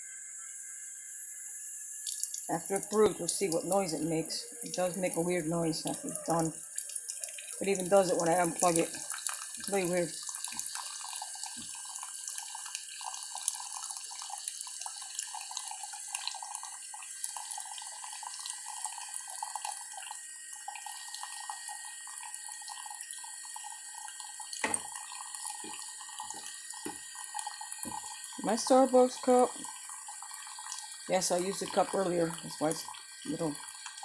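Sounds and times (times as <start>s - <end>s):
coffee maker brewing: 0.0s - 34.0s
coffee pouring into a cup: 0.0s - 34.0s.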